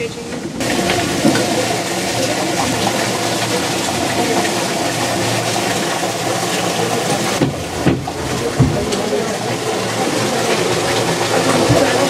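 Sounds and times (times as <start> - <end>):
cliff railway car rushing: 0.3 - 12.0.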